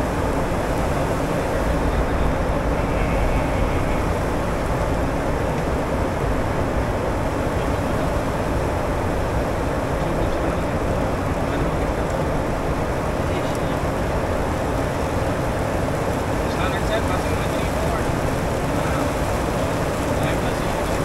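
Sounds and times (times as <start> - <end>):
jet cockpit engine rumble and hiss: 0.0 - 21.0.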